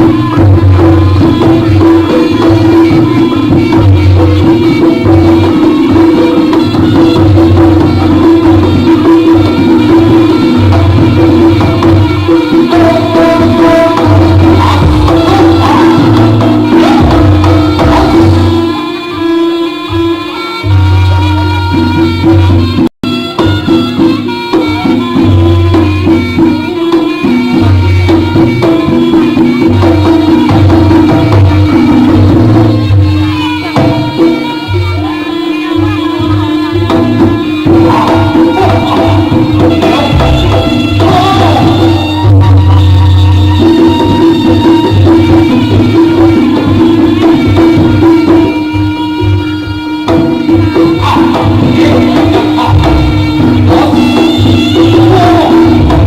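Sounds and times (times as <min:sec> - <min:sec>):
hand drums: 0:00.0 - 0:56.0
held melody line: 0:00.0 - 0:56.0.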